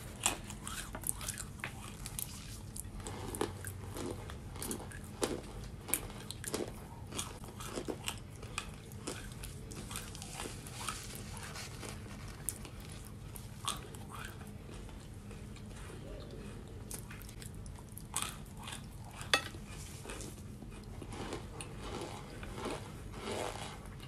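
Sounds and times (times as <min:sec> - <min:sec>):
crunchy food being chewed: 0:00.0 - 0:24.0.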